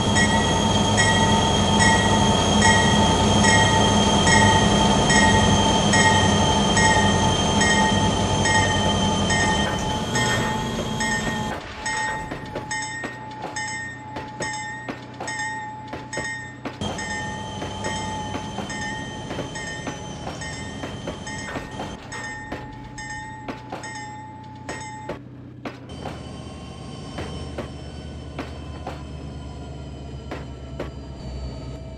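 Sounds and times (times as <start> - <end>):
train rumbling past: 0.0 - 31.9
wheels clicking over rail joints: 0.0 - 31.9
wheels squealing: 0.0 - 31.9.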